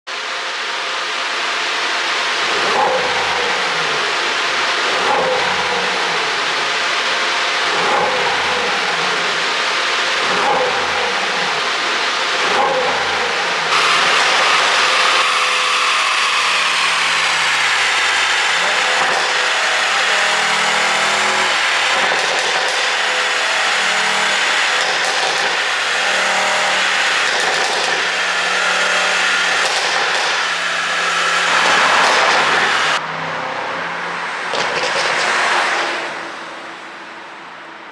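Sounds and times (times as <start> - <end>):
car engine revving: 0.1 - 37.9.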